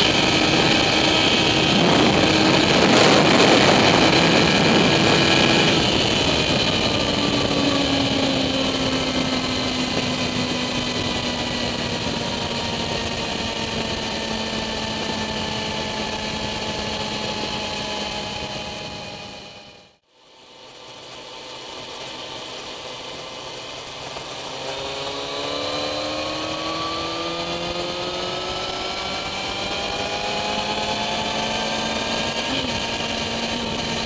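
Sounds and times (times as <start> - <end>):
wind rush on microphone: 0.0 - 19.6, 24.4 - 34.0
motorcycle engine running: 0.0 - 34.0.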